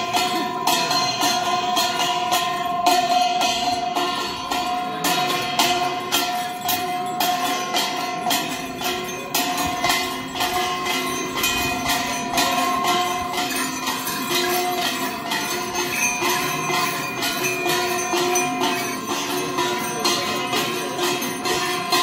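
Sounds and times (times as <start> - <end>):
metallic percussion clinking: 0.0 - 22.0.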